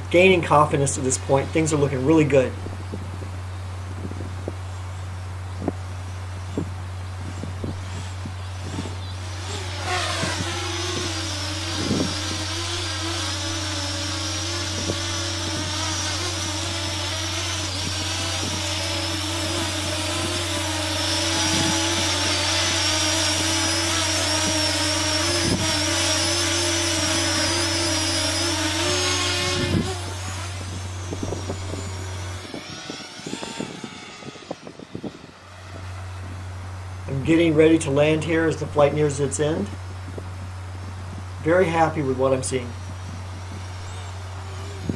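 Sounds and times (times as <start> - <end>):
drone propellers buzzing: 0.0 - 44.9.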